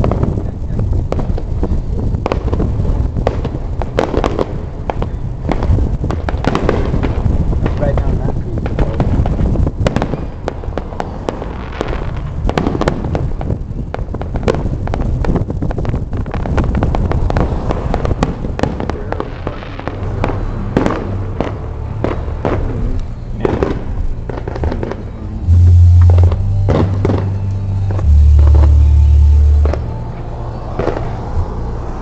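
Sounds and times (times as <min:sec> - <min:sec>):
fireworks bangs and crackles: 0:00.0 - 0:32.0
low rumble: 0:00.0 - 0:32.0.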